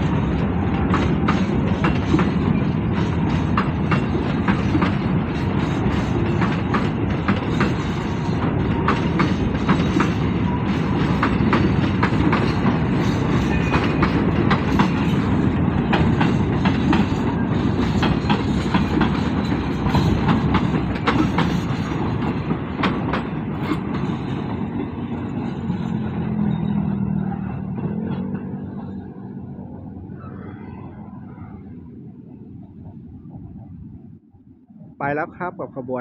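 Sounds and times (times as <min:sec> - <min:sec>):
clickety-clack over rail joints: 0:00.0 - 0:30.0
freight train wheels rumbling on rail: 0:00.0 - 0:34.3.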